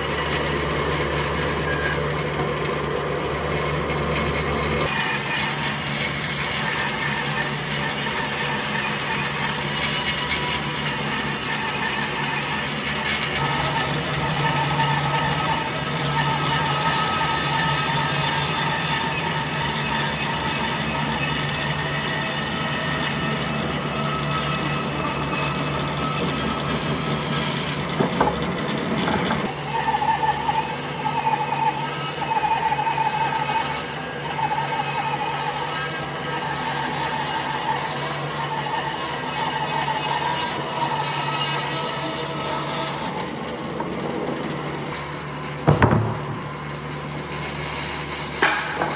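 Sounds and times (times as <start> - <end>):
power tool cutting wood: 0.0 - 48.9.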